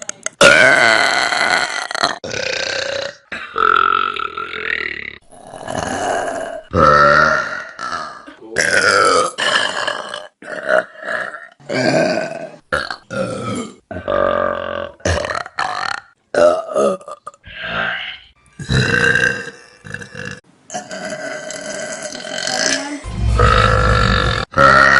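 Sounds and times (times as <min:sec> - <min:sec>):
loud human burps: 0:00.2 - 0:17.4, 0:18.6 - 0:24.9.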